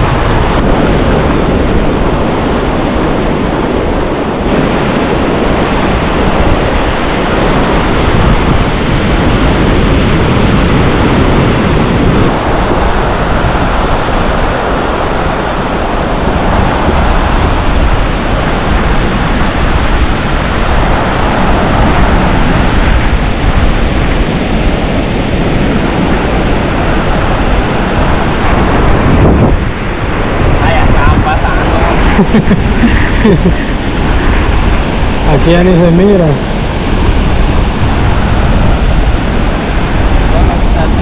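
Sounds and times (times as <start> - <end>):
ocean surf breaking: 0.0 - 41.0
wind buffeting microphone: 0.0 - 41.0.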